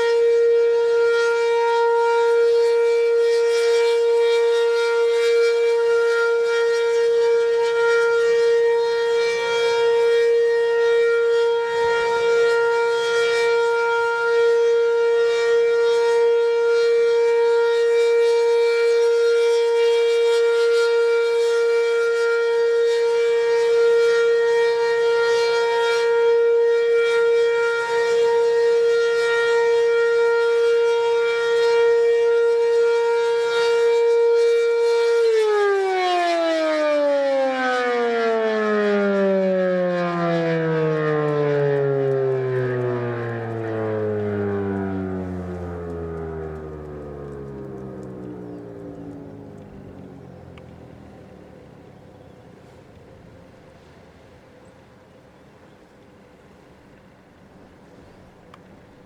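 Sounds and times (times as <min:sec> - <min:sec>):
tornado siren steady tone: 0:00.0 - 0:59.0.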